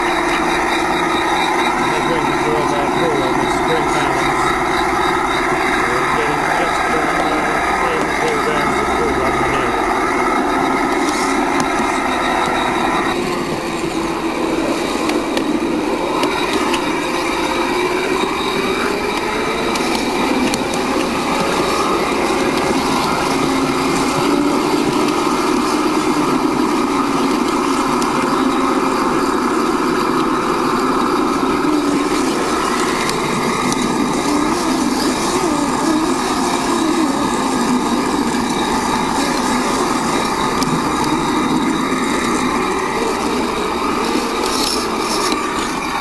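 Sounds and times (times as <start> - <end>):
diesel shunter engine sound effect: 0.0 - 46.0.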